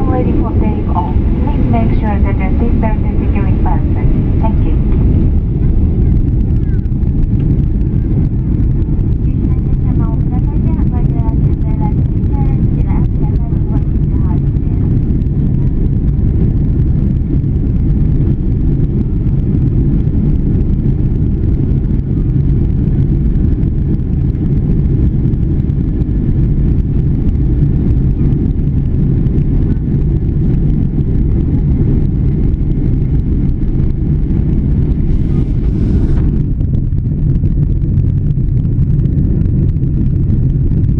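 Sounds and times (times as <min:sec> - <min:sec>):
airliner cabin low rumble: 0:00.0 - 0:40.9.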